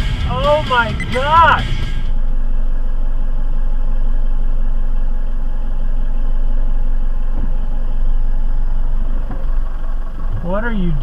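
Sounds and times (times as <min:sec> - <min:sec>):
car engine: 0:00.0 - 0:11.0
road noise inside car: 0:00.0 - 0:11.0.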